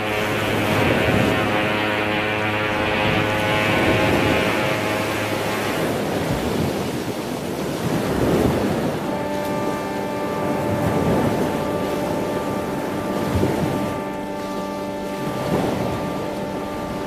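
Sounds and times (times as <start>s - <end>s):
low held tone with overtones: 0.0s - 17.0s
sea wash: 0.0s - 17.0s
wind noise: 0.0s - 17.0s.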